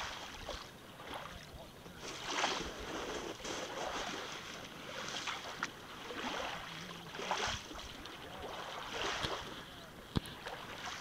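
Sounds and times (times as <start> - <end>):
waves lapping on gravel: 0.0 - 1.4, 2.0 - 11.0.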